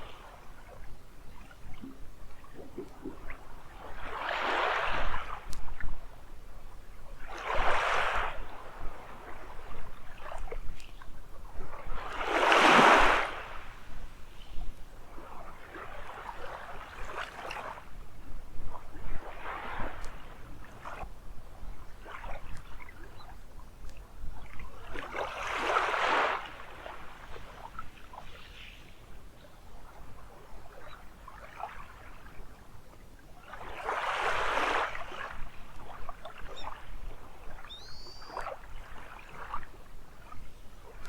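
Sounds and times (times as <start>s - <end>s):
small waves breaking on a beach: 0.0s - 41.0s.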